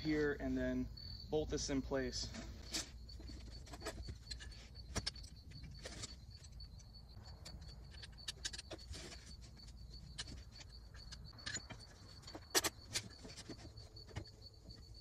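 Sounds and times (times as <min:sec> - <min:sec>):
faint high insect chirp: 0:00.0 - 0:15.0.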